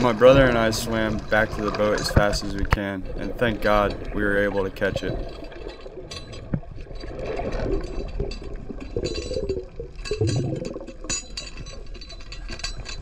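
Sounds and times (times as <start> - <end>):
metallic clicks underwater: 0.0 - 13.0
underwater bubbling and gurgling: 0.0 - 13.0.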